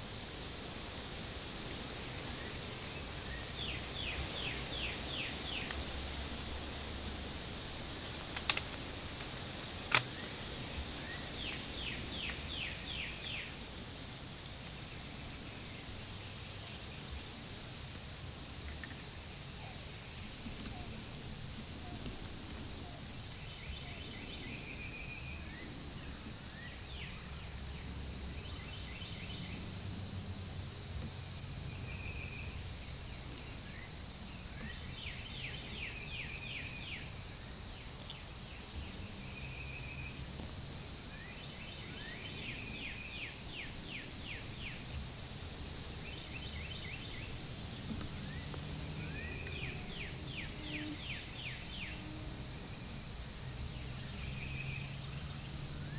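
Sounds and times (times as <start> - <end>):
songbirds singing: 1.7 - 13.7, 18.8 - 29.8, 31.0 - 55.9.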